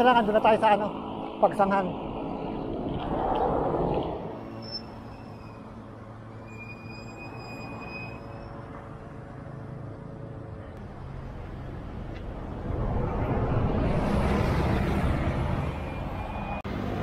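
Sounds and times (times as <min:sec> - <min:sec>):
bus passing: 0:00.0 - 0:17.0
road traffic engine hum: 0:00.0 - 0:17.0.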